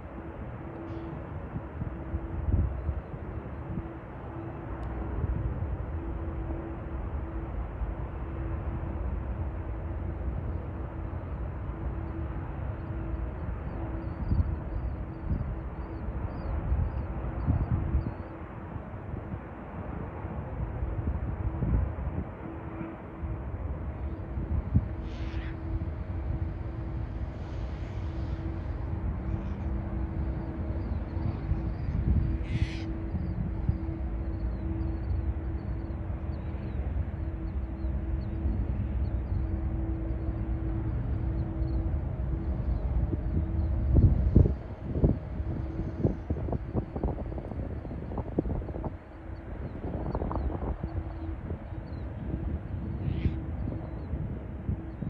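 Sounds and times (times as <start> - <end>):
faint hum: 0.0 - 55.0
jet engines rumbling: 0.0 - 55.0.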